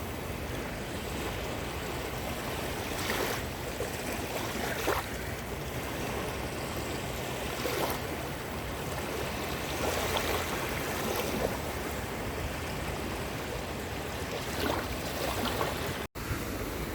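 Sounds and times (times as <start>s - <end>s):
waves breaking on shore: 0.0s - 16.9s.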